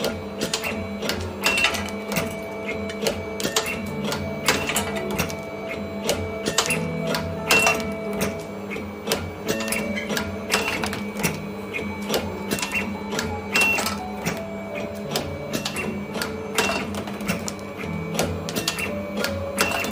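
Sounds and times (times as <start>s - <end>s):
feed rollers whining: 0.0s - 19.9s.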